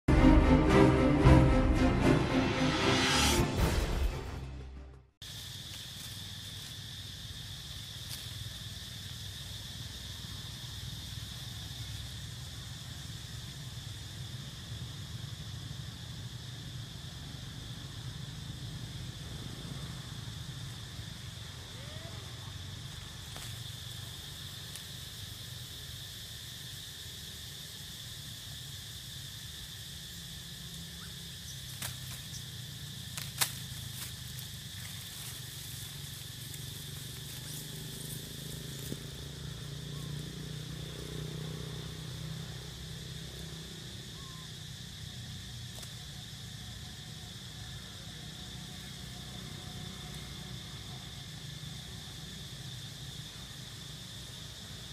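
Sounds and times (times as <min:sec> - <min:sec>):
insects droning: 0:05.2 - 0:54.9.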